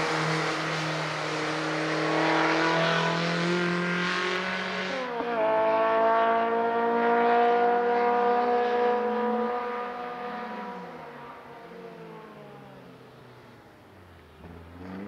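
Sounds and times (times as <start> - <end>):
race car engine at high revs: 0.0 - 12.9, 14.4 - 15.0.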